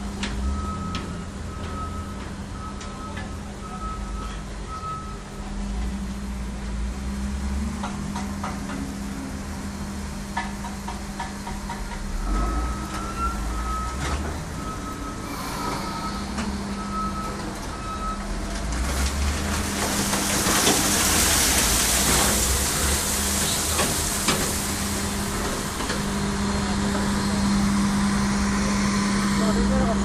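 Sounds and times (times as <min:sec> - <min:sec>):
machinery humming: 0:05.2 - 0:30.0.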